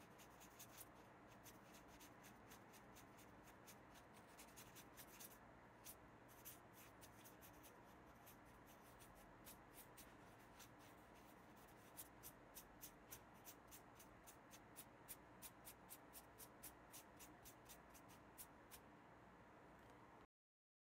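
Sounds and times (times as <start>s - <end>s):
paintbrush strokes on paper: 0.0s - 18.9s.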